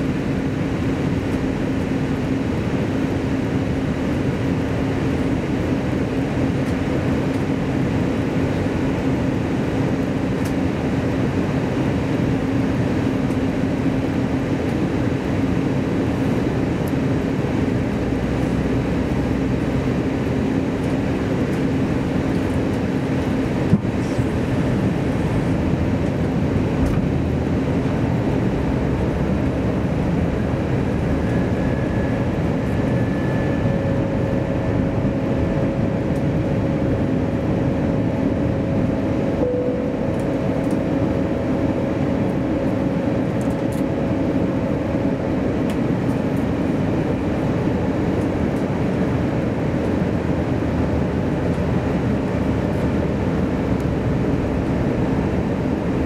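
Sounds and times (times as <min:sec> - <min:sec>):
jet engine and airflow rumble: 0:00.0 - 0:56.0.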